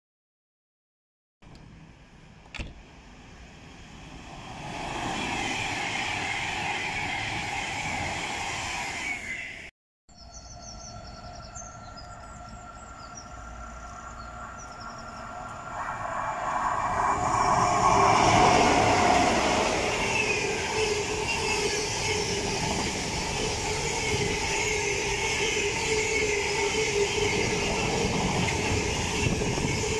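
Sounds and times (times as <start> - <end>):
passing train: 1.5 - 29.9
electric train approaching: 1.7 - 29.9.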